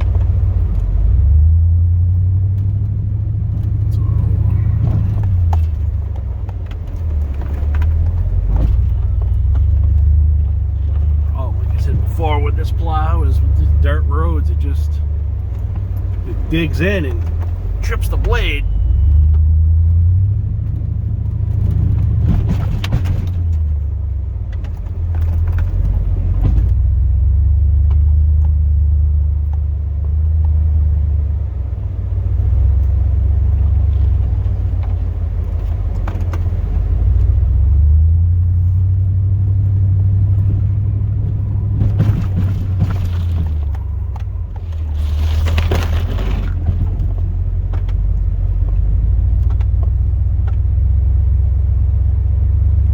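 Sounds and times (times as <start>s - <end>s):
truck engine rumbling: 0.0s - 52.9s.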